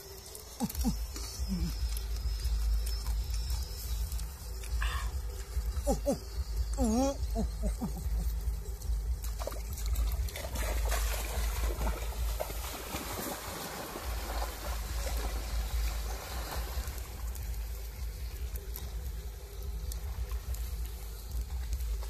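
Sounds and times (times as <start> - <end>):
food sizzling over embers: 0.0 - 22.0
small crackles: 0.0 - 22.0.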